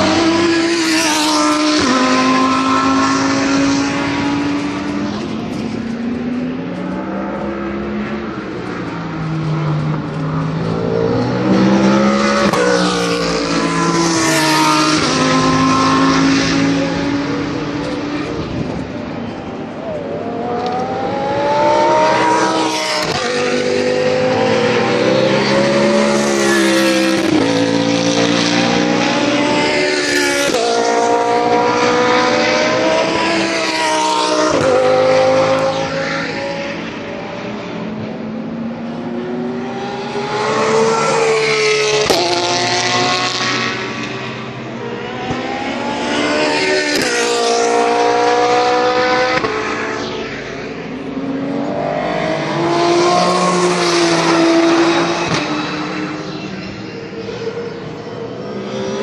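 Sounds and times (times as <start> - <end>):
race car engines passing: 0.0 - 59.0.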